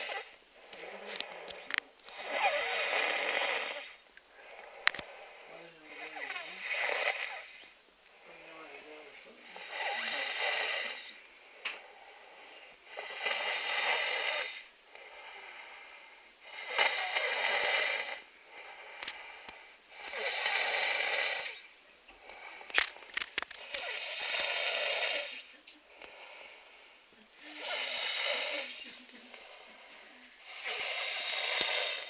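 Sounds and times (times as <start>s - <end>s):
person snoring: 0.0s - 32.0s.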